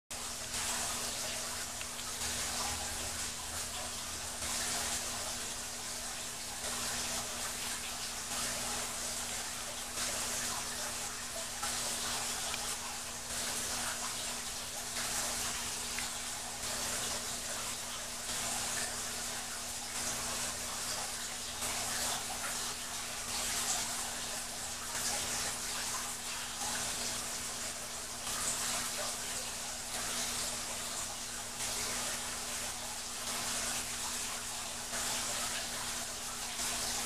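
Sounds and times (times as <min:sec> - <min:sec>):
aquarium water bubbling: 0:00.1 - 0:37.0.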